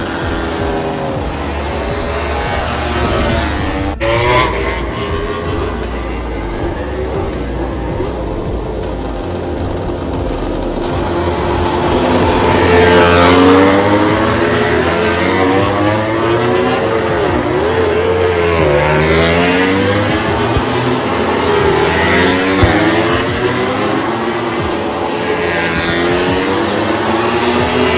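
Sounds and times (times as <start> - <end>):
motorcycle engines revving: 0.0 - 27.9.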